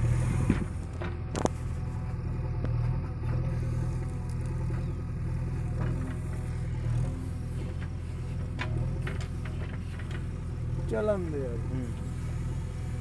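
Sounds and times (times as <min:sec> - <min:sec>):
backhoe digging soil: 0:00.0 - 0:13.0
diesel engine running: 0:00.0 - 0:13.0.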